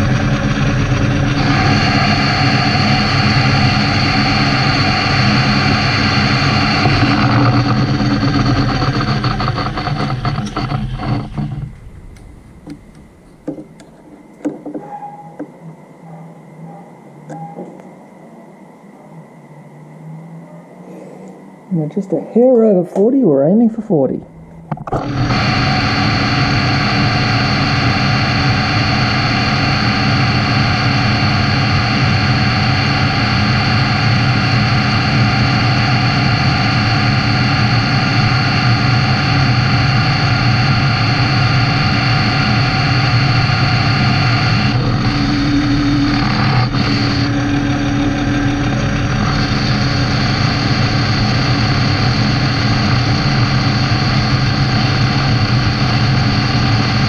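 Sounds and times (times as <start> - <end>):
metal lathe motor humming and whining: 0.0 - 14.8, 24.2 - 57.0.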